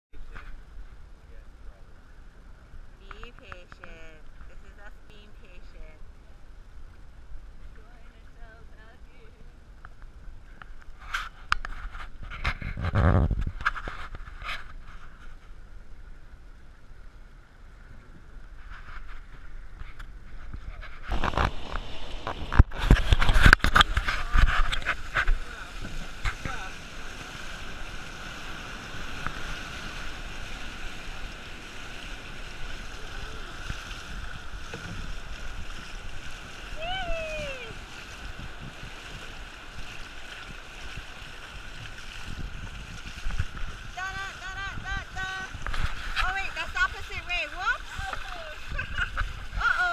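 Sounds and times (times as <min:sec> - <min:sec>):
water splashing around canoe: 0:02.0 - 0:49.9
wind buffeting microphone: 0:06.6 - 0:14.9, 0:17.8 - 0:49.9.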